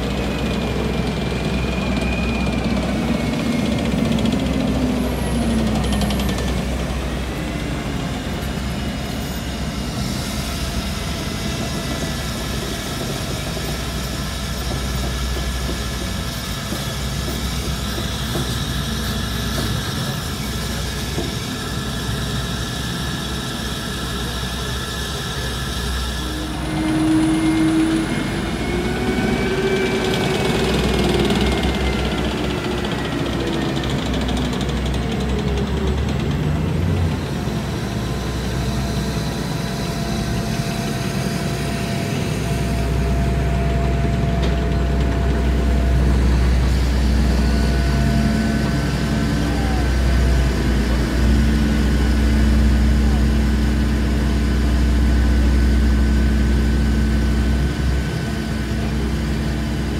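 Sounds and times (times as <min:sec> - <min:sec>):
high steady whine: 0:00.0 - 0:59.9
tank engines driving past: 0:00.0 - 0:59.9.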